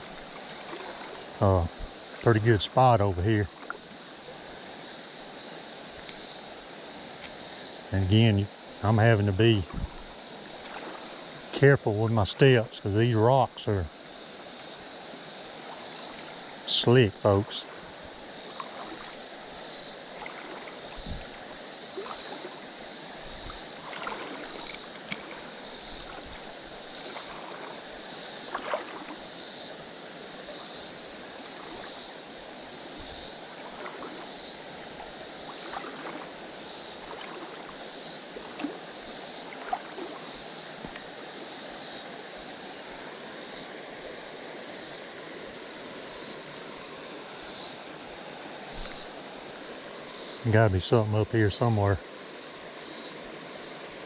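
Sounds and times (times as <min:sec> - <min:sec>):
creek water running over rocks: 0:00.0 - 0:54.0
high-pitched insect call pulsing: 0:00.0 - 0:54.0.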